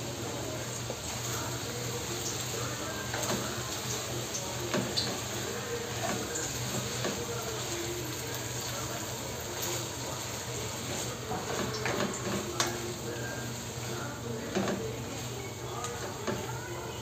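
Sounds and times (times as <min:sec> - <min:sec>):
cooking hiss: 0:00.0 - 0:17.0
wooden spatula scraping a pan: 0:00.9 - 0:17.0.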